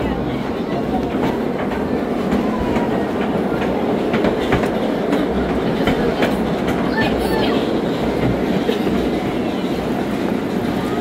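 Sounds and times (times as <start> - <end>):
steel wheels rumbling on rail: 0.0 - 11.0
wheels clicking over rail joints: 0.0 - 11.0.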